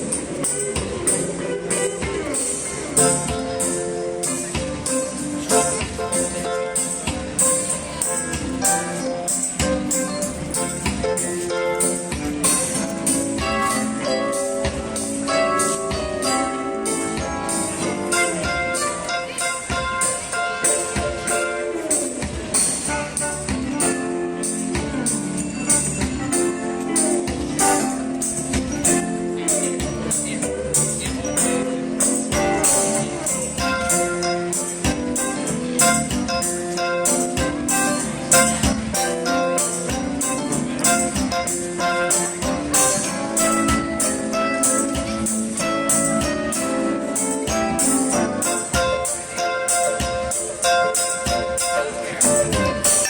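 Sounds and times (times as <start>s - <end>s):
held instrument notes: 0.0s - 53.0s
steady beat: 0.0s - 53.0s.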